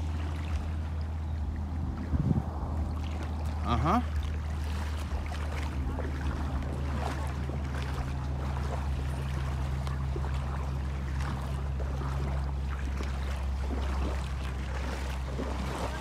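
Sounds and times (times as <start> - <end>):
seawater sloshing and splashing: 0.0 - 16.0
steady low hum: 0.0 - 16.0.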